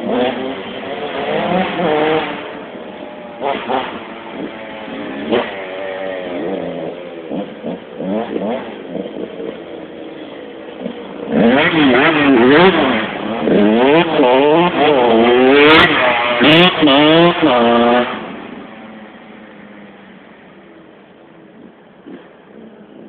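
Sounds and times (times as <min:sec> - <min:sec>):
motocross bike engine revving: 0:00.0 - 0:20.2.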